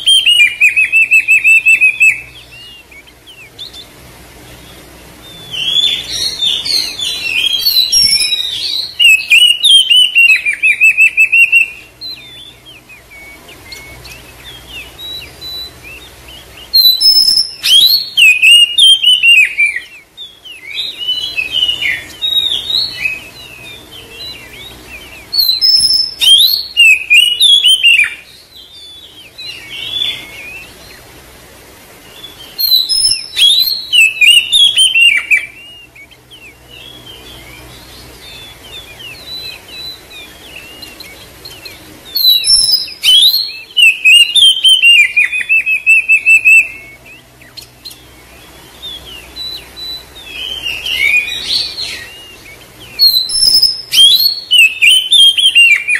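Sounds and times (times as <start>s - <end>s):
bird singing whistles and chatter: 0.0s - 31.1s, 32.0s - 55.9s
soft bird twittering: 0.0s - 55.9s.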